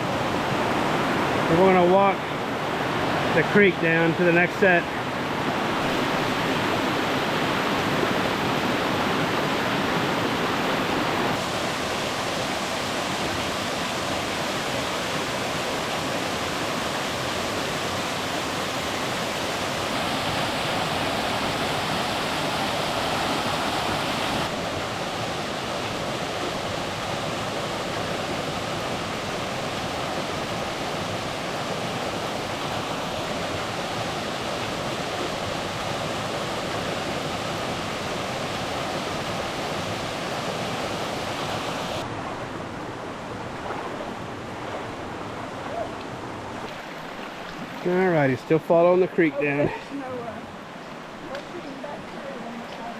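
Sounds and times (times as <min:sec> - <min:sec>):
creek water rushing over falls: 0:00.0 - 0:52.9.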